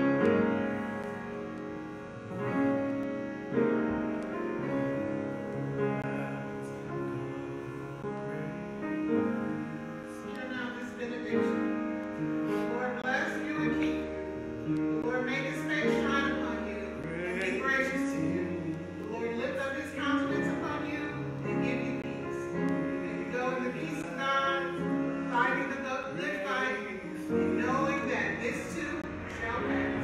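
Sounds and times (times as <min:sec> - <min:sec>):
slow church music on keyboard: 0:00.0 - 0:30.0.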